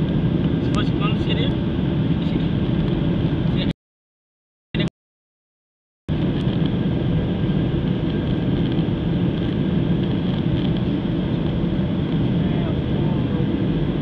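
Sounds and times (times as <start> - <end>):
airliner cabin engine rumble: 0.0 - 3.7, 6.1 - 14.0.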